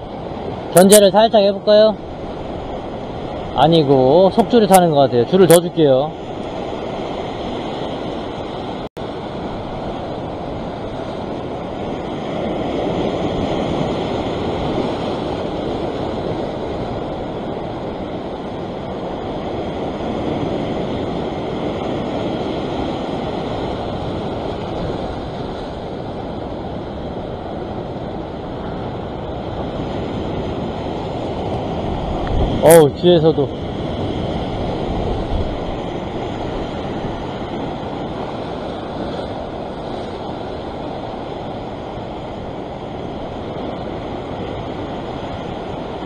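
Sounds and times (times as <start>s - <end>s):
surf breaking over rocks: 0.0s - 46.0s
wind buffeting microphone: 6.0s - 46.0s.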